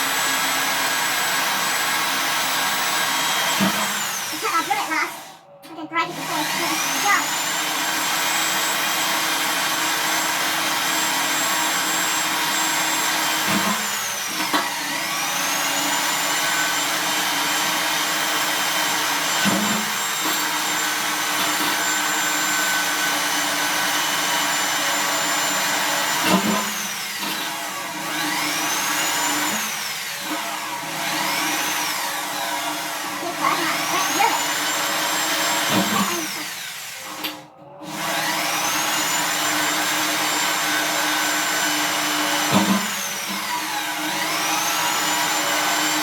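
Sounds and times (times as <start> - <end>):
electric drill boring through metal: 0.0 - 5.4, 6.0 - 46.0.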